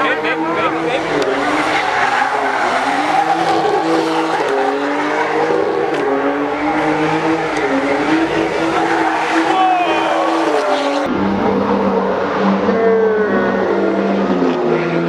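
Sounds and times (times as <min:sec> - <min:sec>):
car engine revving: 0:00.0 - 0:15.0
tire screech: 0:00.0 - 0:15.0.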